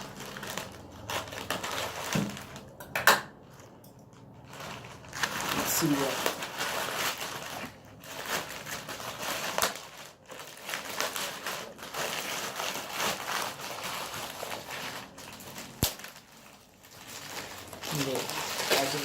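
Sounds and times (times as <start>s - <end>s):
packaging rustling and crinkling: 0.0s - 2.8s, 3.4s - 19.0s.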